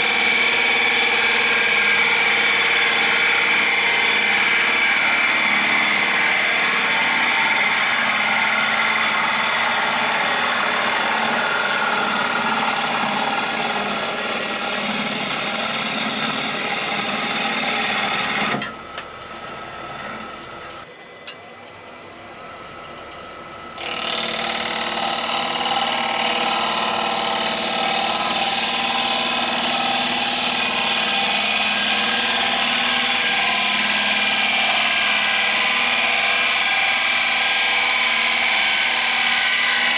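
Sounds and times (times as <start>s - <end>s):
wood lathe running: 0.0s - 18.7s, 23.8s - 39.9s.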